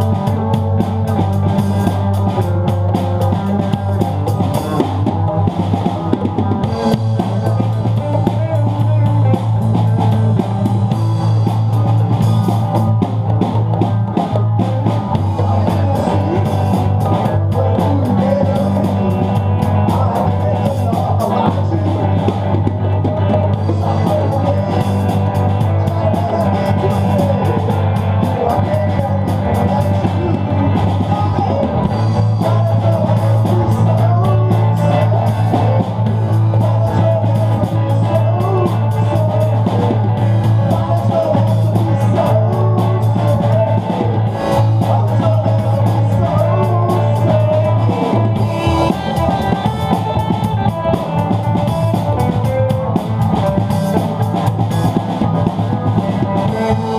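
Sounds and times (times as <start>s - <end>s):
person singing: 0.0s - 56.9s
rock band playing: 0.0s - 56.9s.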